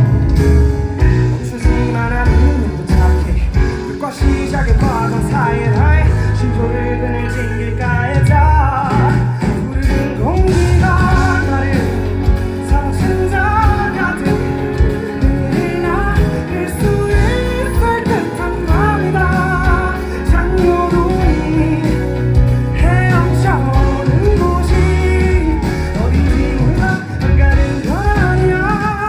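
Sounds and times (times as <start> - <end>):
live band with guitar and singing: 0.0 - 29.0.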